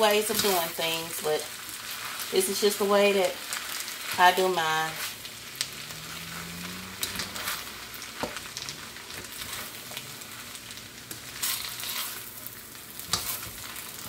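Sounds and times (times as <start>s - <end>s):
rice sizzling in a hot pan: 0.0s - 14.0s.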